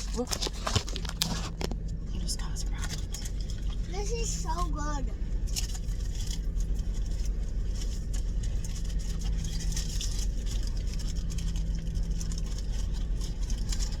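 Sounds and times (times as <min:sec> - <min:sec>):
light rustling and clicks: 0:00.0 - 0:04.8, 0:05.4 - 0:14.0
car engine idling: 0:00.0 - 0:14.0.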